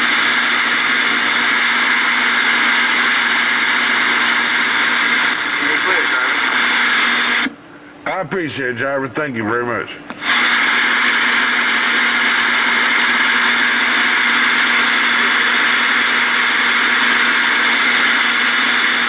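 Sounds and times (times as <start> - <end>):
radio static hiss: 0.0 - 7.5, 10.2 - 19.0
faint hum: 0.0 - 19.0.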